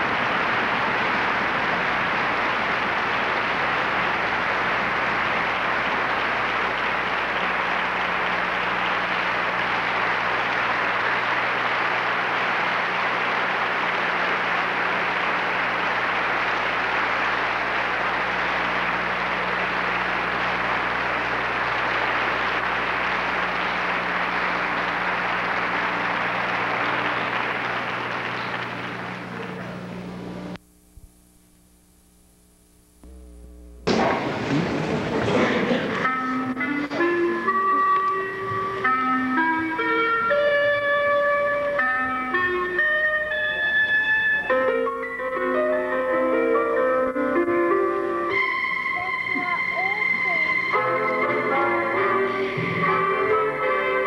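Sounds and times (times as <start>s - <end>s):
audience applauding: 0.0s - 30.5s, 33.9s - 46.4s, 48.3s - 54.0s.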